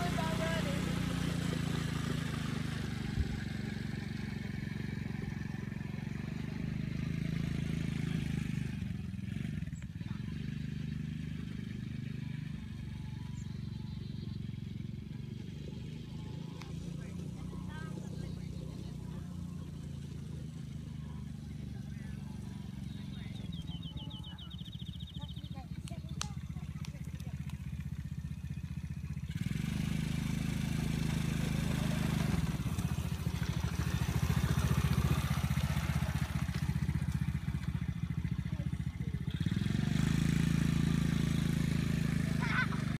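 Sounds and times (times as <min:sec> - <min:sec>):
small engine running: 0:00.0 - 0:43.0.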